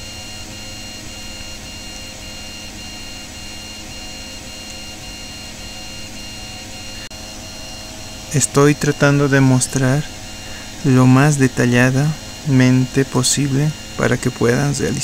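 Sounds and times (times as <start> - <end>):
electrical hum and hiss: 0.0 - 15.0
faint pulsing high beep: 0.0 - 15.0.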